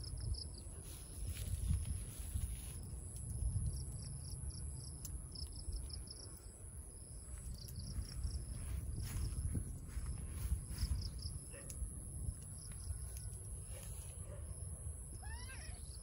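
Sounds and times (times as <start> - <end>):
steady low rumble: 0.0 - 15.2
constant high whine: 0.0 - 16.0
insects chirping: 0.0 - 16.0.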